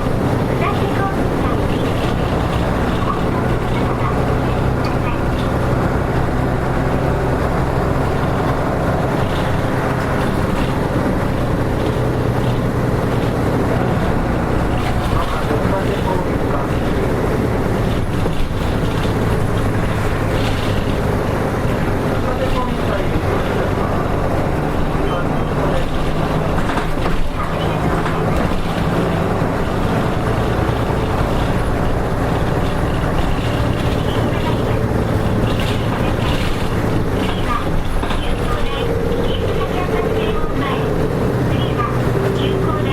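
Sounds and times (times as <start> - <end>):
bus diesel engine running: 0.0 - 42.9
road noise: 0.0 - 42.9.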